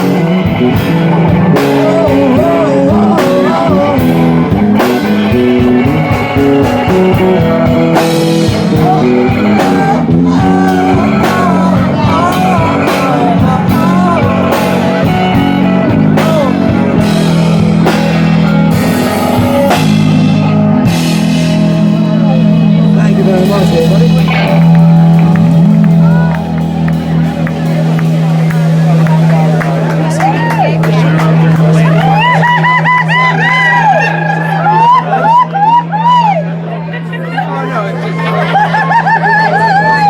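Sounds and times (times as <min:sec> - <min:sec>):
blues-rock band playing: 0:00.0 - 0:40.0.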